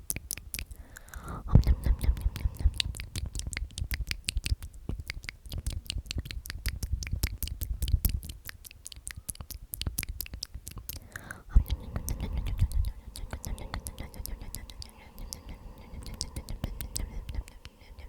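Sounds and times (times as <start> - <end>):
wet lip and tongue clicks: 0.0 - 18.0.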